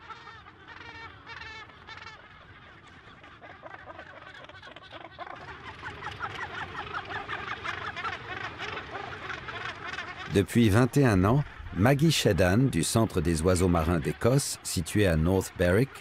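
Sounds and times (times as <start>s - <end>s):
seabird colony calling: 0.0s - 16.0s.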